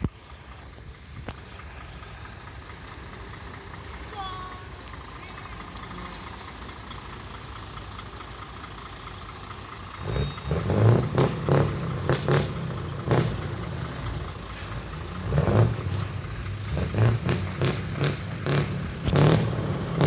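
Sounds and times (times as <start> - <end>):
diesel truck engines idling: 0.0 - 20.0
truck engine revving: 0.0 - 20.0.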